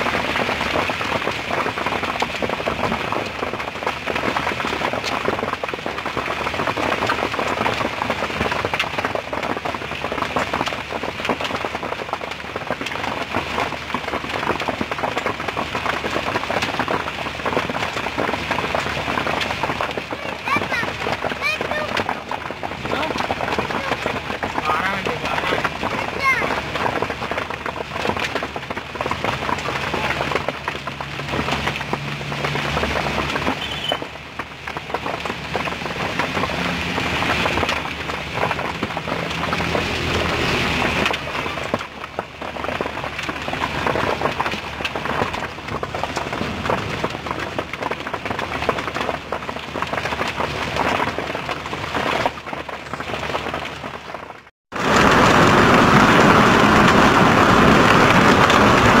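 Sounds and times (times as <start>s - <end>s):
hail and rain on pavement: 0.0s - 59.0s.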